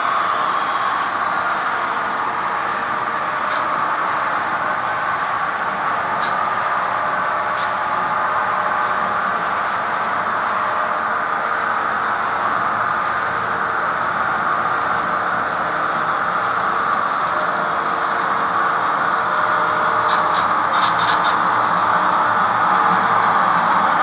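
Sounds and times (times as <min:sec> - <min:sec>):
model train motor hum: 0:00.0 - 0:24.0.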